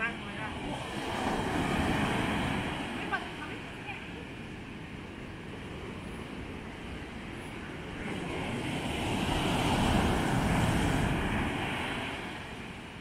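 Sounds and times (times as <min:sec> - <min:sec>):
ocean waves breaking on sand: 0:00.0 - 0:13.0.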